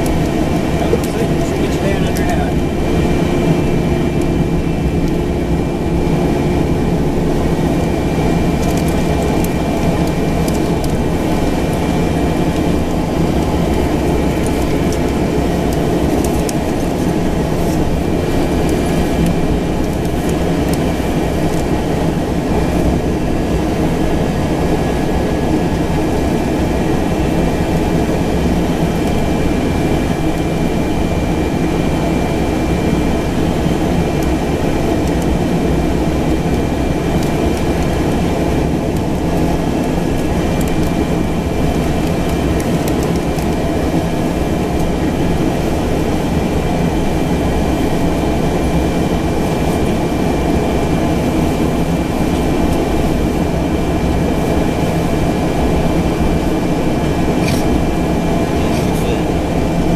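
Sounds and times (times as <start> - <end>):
turboprop engine running: 0.0 - 59.9.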